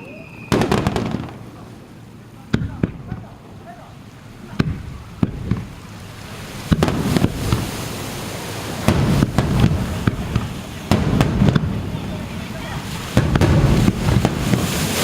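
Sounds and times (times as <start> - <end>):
fireworks bangs: 0.0 - 15.0
fireworks crackling hiss: 0.0 - 15.0.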